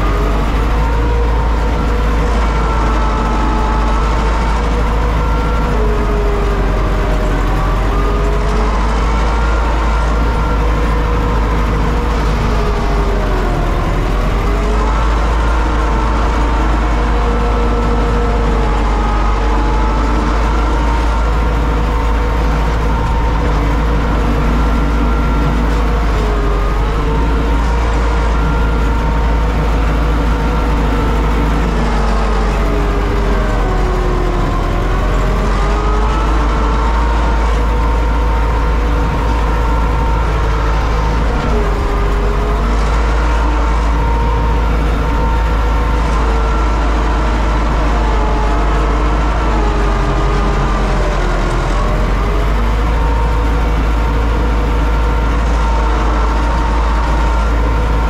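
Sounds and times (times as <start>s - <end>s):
tractor diesel engine rumbling: 0.0s - 58.0s.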